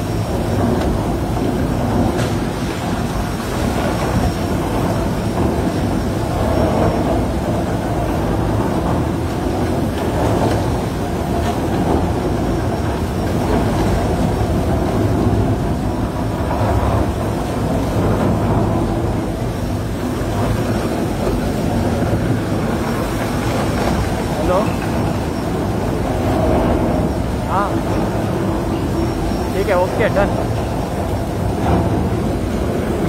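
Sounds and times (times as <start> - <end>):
low mechanical rumble of boring machine: 0.0 - 33.0.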